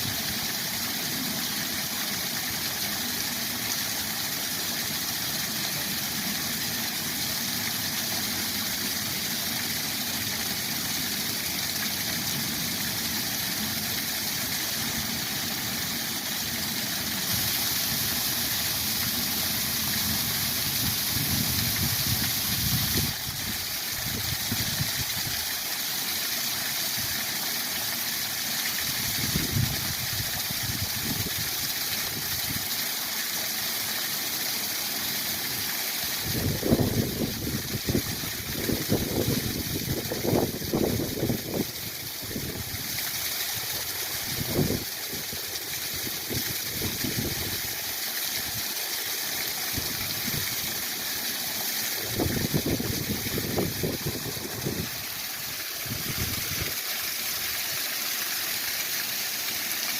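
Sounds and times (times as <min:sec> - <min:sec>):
waterfall rushing: 0:00.0 - 0:32.1, 0:33.7 - 0:59.9.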